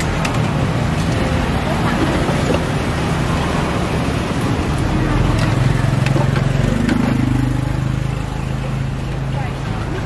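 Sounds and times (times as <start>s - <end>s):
street bustle: 0.0s - 10.0s.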